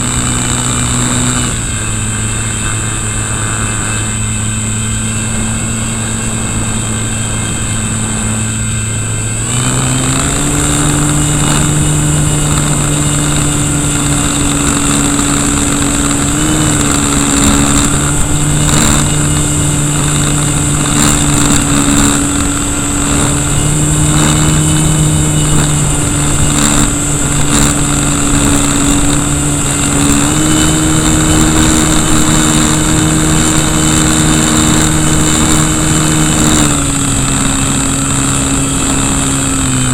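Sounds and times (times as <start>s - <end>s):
electric motor buzzing whine: 0.0s - 39.9s
wind on microphone: 0.0s - 39.9s.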